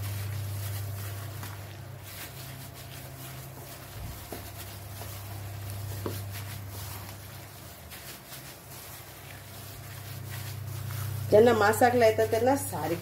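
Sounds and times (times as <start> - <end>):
gloved hand squelching food: 0.0 - 13.0
steady low hum: 0.0 - 13.0.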